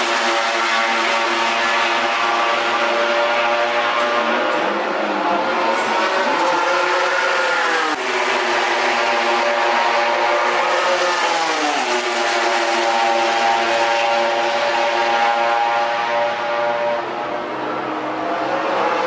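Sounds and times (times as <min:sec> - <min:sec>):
racing motorcycle engine: 0:00.0 - 0:19.0.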